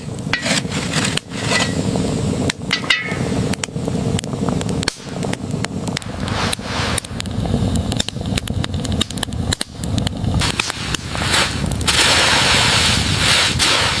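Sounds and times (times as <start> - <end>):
campfire crackling and popping: 0.0 - 14.0
loud steady hiss: 0.0 - 14.0.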